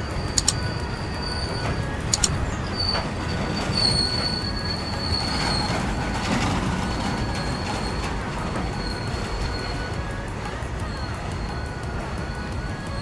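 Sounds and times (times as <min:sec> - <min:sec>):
high-pitched squeal: 0:00.0 - 0:13.0
train wheels rumbling on rails: 0:00.0 - 0:13.0.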